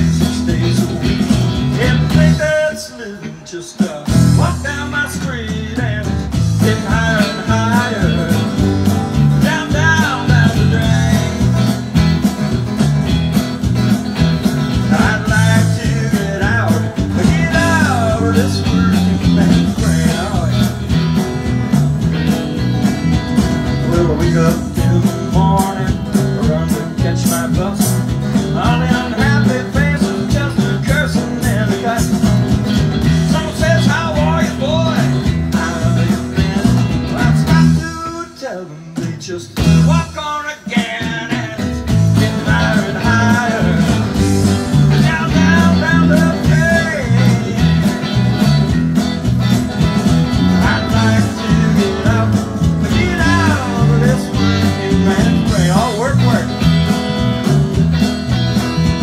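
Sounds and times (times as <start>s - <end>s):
live blues-rock band: 0.0s - 59.0s.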